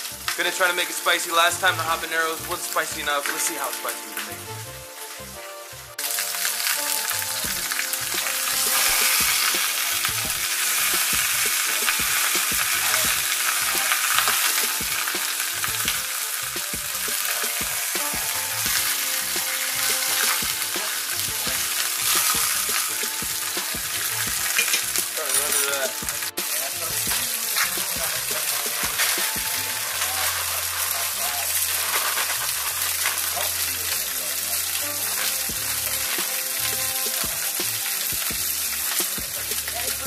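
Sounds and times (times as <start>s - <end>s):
chicken sizzling in a skillet: 0.0s - 40.0s.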